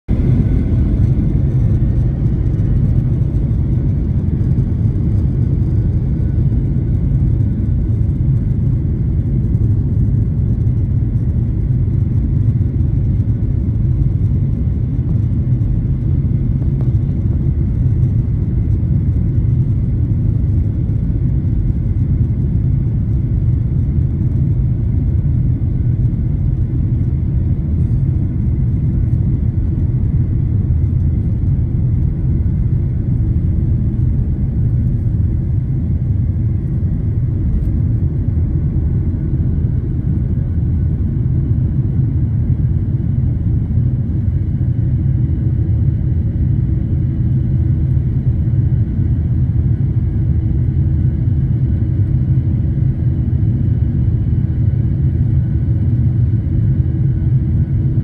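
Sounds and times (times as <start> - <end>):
airliner cabin low rumble: 0.0 - 58.0.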